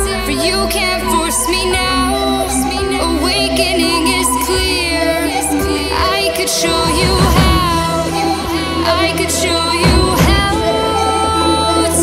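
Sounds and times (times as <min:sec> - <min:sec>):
electronic music with synth: 0:00.0 - 0:12.0.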